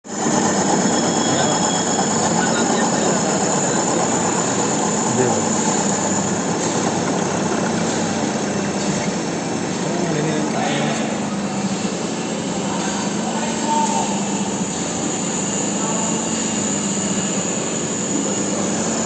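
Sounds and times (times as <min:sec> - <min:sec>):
metal lathe running: 0:00.1 - 0:19.0.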